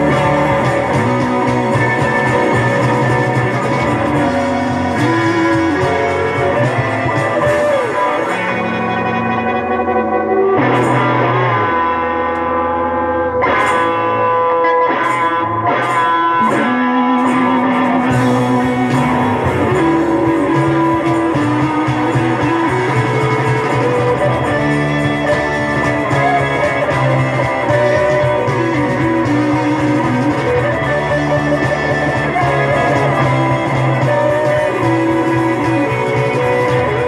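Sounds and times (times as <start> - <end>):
guitar-led rock music: 0.0 - 37.0.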